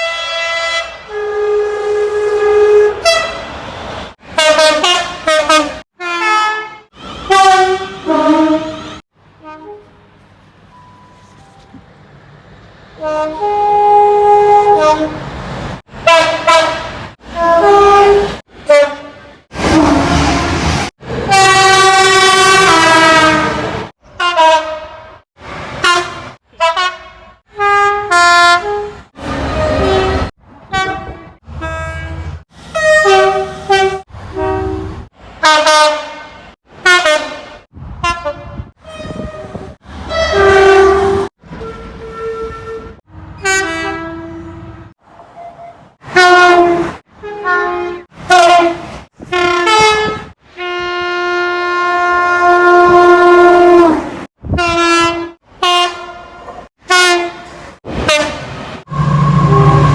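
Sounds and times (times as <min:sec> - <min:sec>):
train horn blasts: 0:00.0 - 0:03.6, 0:04.4 - 0:10.0, 0:13.0 - 0:15.3, 0:16.0 - 0:20.7, 0:21.3 - 0:25.2, 0:25.8 - 0:59.9.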